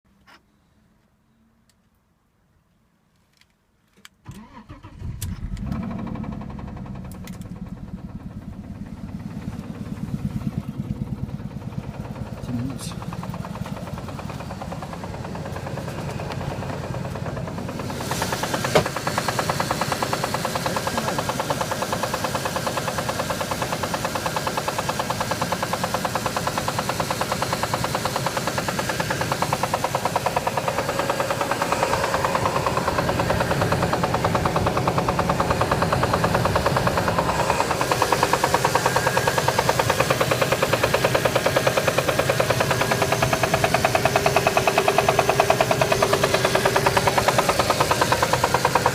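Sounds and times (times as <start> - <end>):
car engine running: 4.3 - 48.9
fast even engine knock: 5.7 - 48.9.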